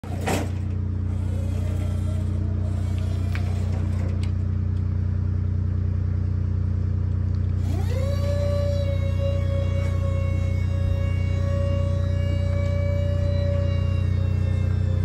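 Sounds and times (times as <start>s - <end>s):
hydraulic lift motor humming: 0.0s - 4.9s, 7.4s - 15.0s.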